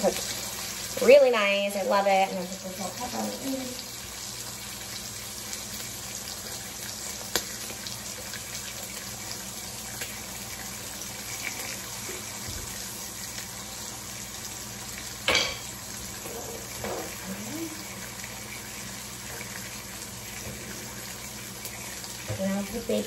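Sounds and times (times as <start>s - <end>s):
bacon sizzling on griddle: 0.0s - 23.0s.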